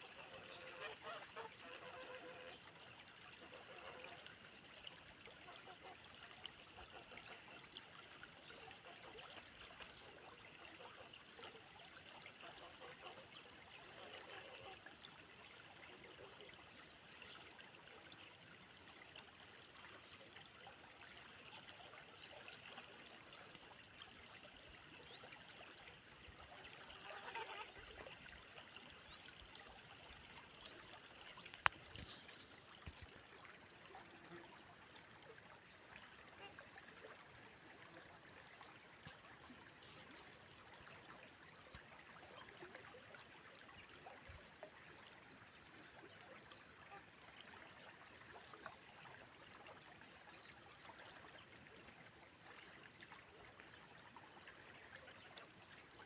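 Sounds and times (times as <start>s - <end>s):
small water splashes: 0.0s - 56.0s.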